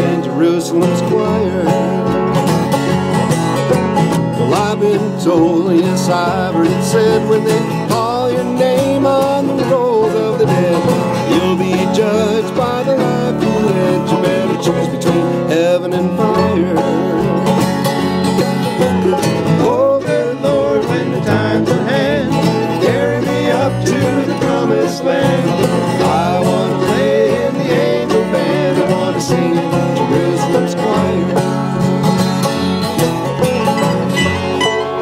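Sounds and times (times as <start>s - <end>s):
bluegrass band playing: 0.0s - 35.0s.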